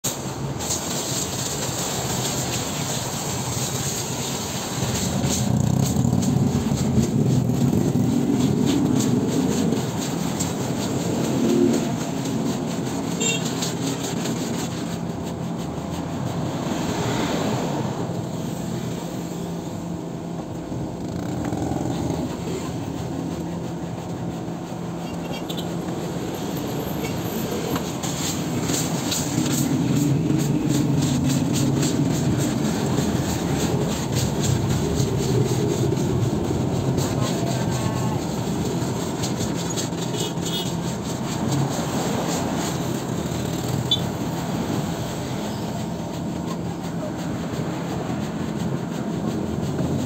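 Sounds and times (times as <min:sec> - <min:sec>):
vehicles passing on street: 0:00.0 - 0:50.0.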